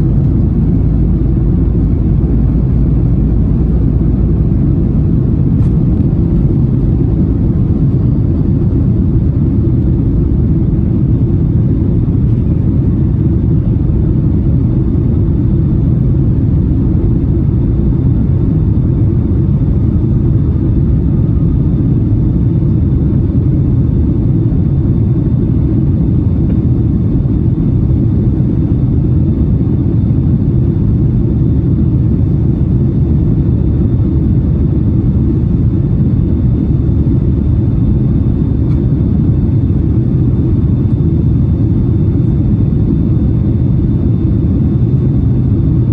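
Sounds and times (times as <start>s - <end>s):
airliner cabin drone: 0.0s - 45.9s.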